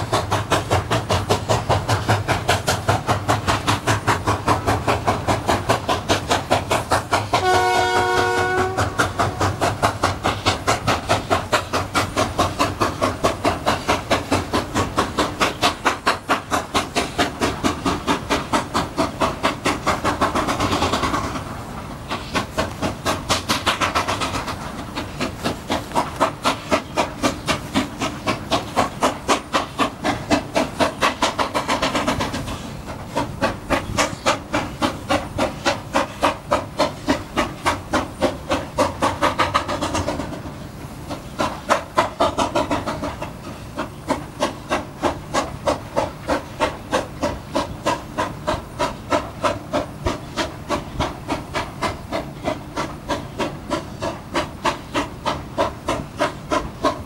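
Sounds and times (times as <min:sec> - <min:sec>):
steam locomotive exhaust chuffing: 0:00.0 - 0:57.0.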